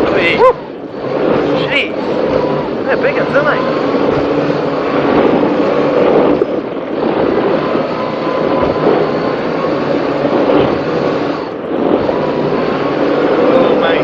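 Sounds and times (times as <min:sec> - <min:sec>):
powerboat engines roaring: 0:00.0 - 0:14.0
water rushing: 0:00.0 - 0:14.0
wind rushing: 0:00.0 - 0:14.0.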